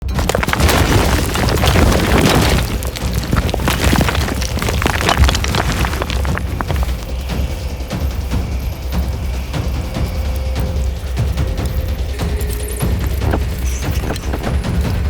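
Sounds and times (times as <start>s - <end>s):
constant low rumble: 0.0s - 15.0s.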